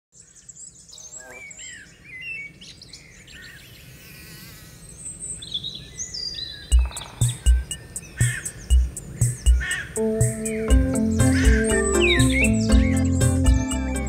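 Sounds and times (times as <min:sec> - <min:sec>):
songbirds chirping and singing: 0:00.2 - 0:14.0.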